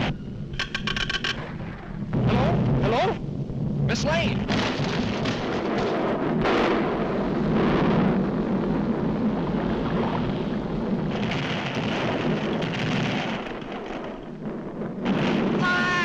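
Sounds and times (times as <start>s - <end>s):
cartoon volcanic eruption rumbling: 1.4s - 16.0s.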